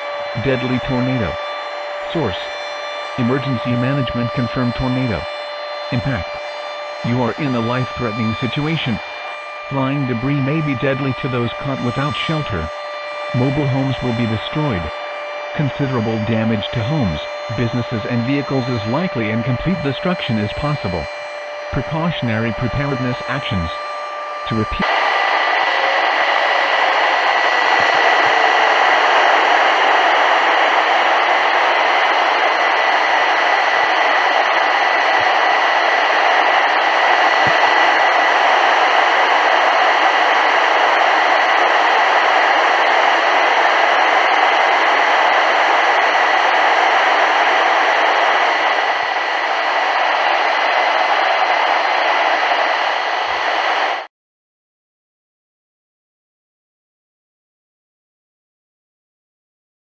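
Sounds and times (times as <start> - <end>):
faint steady whine: 0.0 - 54.1
radio static hiss: 0.0 - 54.1.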